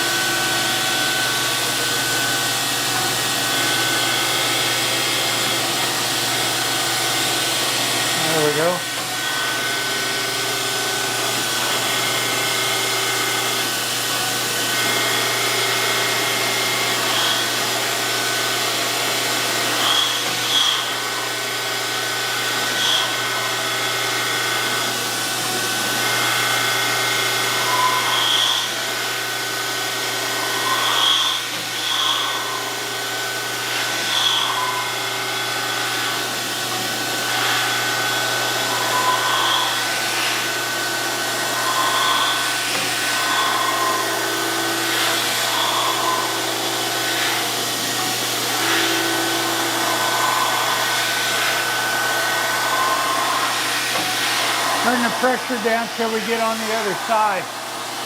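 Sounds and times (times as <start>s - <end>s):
grinder table stroking tone: 0.0s - 36.2s, 37.2s - 58.0s
grinder hum and whine: 0.0s - 58.0s.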